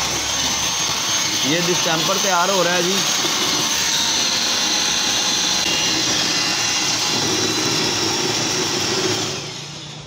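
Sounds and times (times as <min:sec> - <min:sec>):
electric drill mixing paint: 0:00.0 - 0:10.0.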